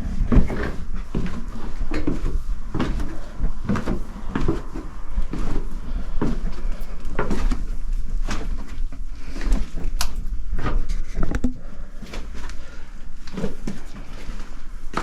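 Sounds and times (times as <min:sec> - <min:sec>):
footsteps going down stairs: 0:00.0 - 0:15.0
steady low rumble: 0:00.0 - 0:15.0.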